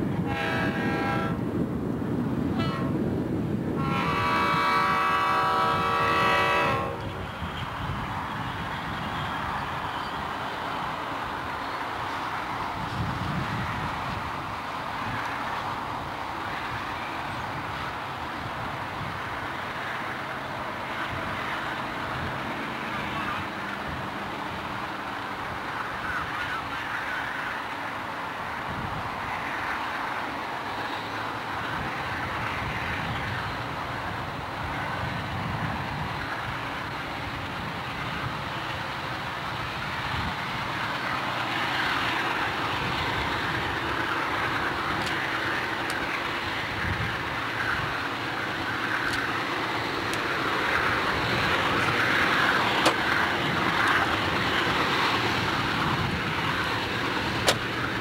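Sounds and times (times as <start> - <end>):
diesel locomotive engines: 0.0 - 58.0.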